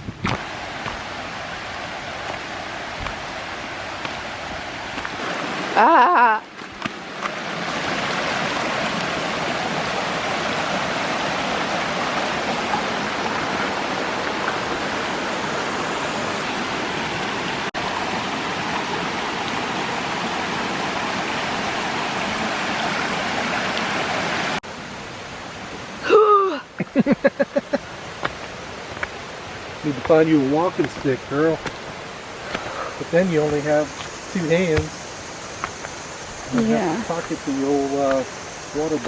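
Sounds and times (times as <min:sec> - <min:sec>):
stream water rushing: 0:00.0 - 0:39.0.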